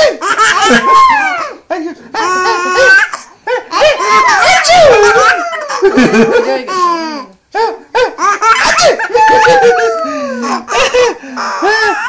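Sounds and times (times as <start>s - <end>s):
infant belly laughing: 0.0s - 12.0s.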